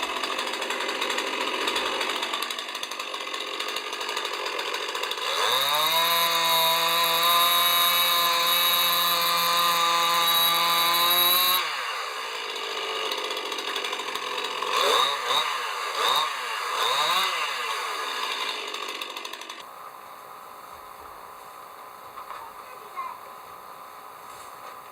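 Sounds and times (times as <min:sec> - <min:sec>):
chainsaw engine revving: 0:00.0 - 0:24.9.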